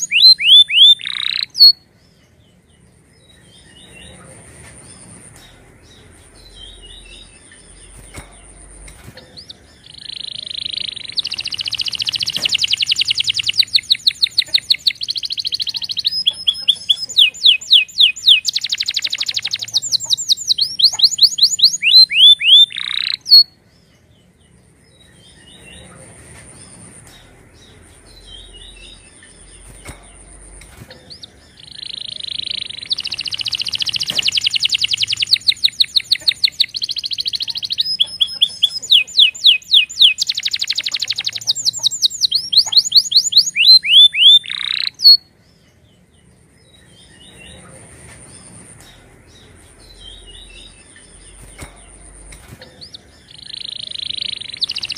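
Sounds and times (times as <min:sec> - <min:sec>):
canary singing trills: 0:00.0 - 0:54.9
soft bird chirps: 0:00.0 - 0:54.9.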